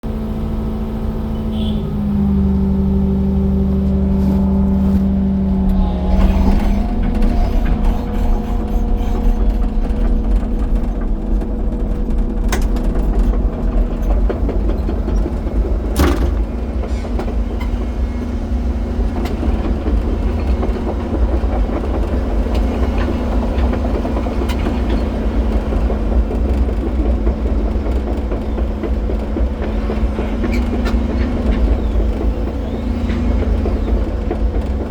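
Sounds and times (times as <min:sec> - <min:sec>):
diesel engine rumbling: 0:00.0 - 0:34.9.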